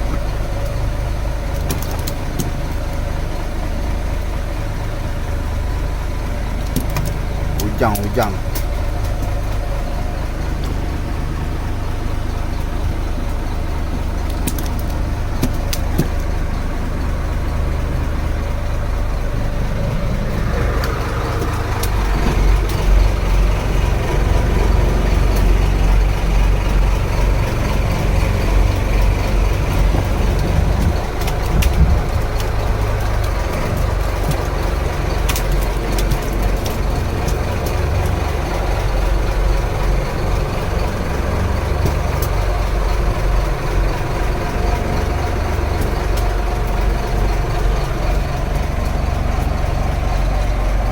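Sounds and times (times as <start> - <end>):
boat engine humming: 0.0 - 50.9
sharp ticks: 6.6 - 50.9.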